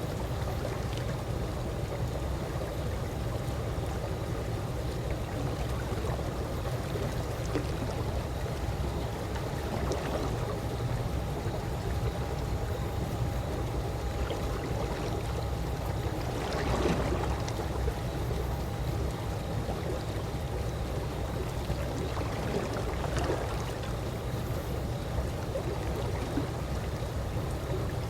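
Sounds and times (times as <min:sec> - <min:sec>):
pool water moving: 0:04.9 - 0:28.0.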